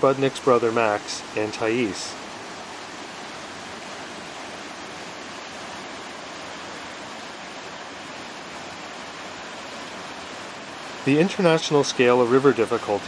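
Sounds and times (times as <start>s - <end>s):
whitewater rapid rushing: 0.0s - 13.0s.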